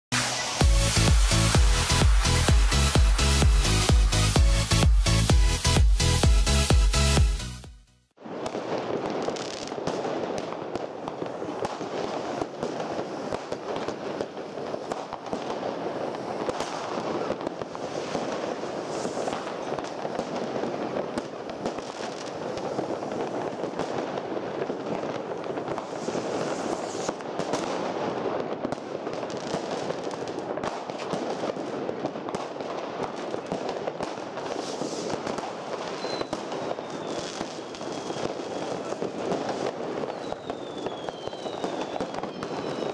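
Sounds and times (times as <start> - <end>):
fireworks crackling and popping: 0.1 - 7.5, 8.1 - 42.9.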